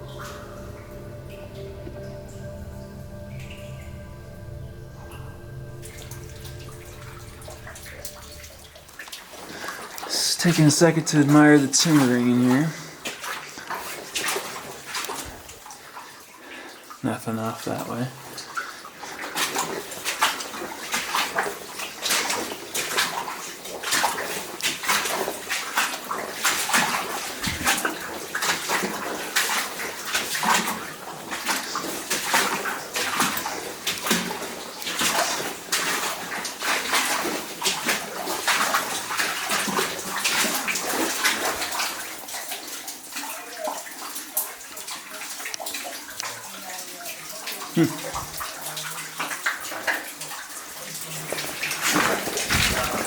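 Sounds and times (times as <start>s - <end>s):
wading through water splashing: 0.0s - 17.0s, 18.2s - 53.0s.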